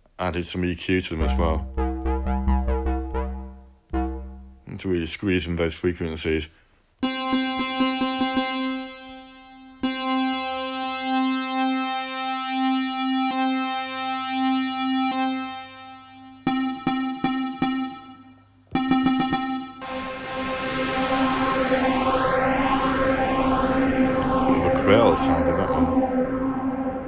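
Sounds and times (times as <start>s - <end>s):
synthesizer note: 1.2s - 4.7s, 7.0s - 27.0s.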